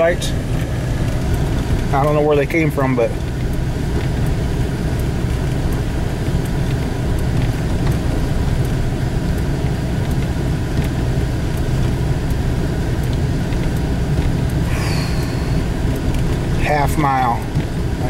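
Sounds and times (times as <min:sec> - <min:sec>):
engine and tyre rumble on snow: 0:00.0 - 0:18.0.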